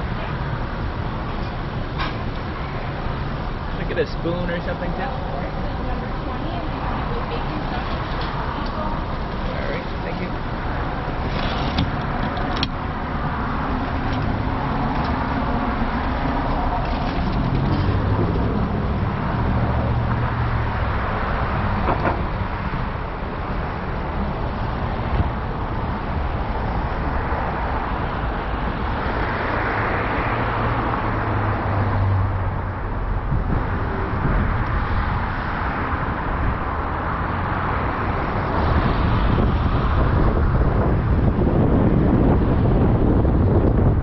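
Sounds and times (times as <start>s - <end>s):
car engine and road noise: 0.0s - 44.0s.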